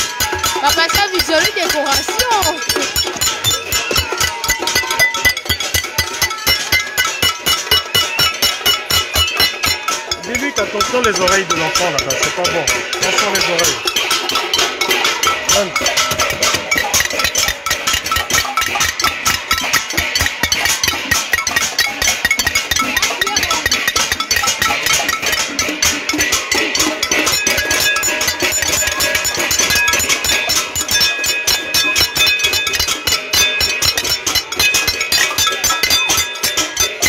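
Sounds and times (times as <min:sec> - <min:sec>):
saucepans being beaten: 0:00.0 - 0:37.0.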